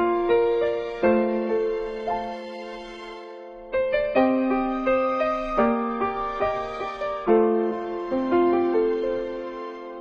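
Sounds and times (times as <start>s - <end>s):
slow gentle music: 0.0s - 10.0s.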